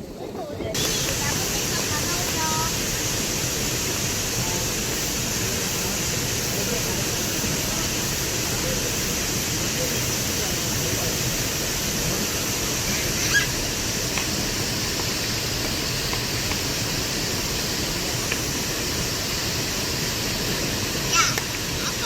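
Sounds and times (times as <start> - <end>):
stream rushing over rocks: 0.7 - 22.0.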